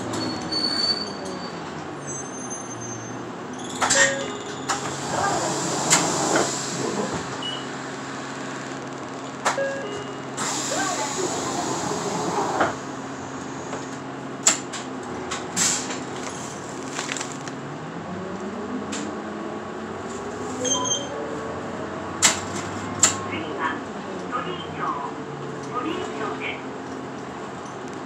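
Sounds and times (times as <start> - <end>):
bus engine running: 0.0 - 28.0.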